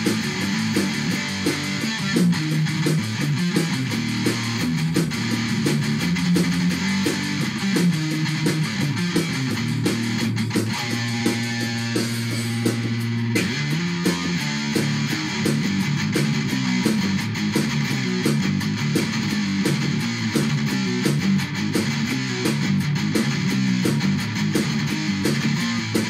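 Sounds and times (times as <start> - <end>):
electric guitar riff: 0.0 - 26.0.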